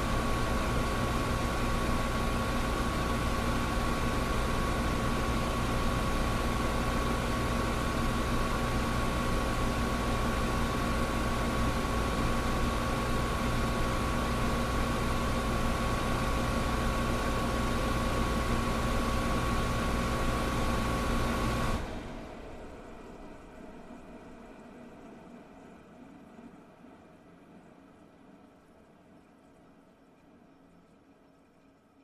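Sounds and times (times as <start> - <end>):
air conditioner running: 0.0 - 29.2.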